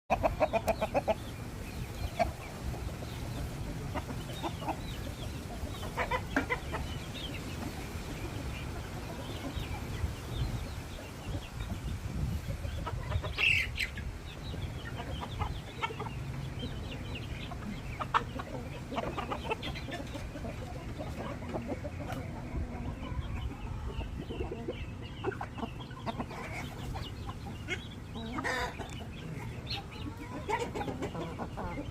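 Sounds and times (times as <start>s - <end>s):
chickens clucking: 0.1s - 31.9s.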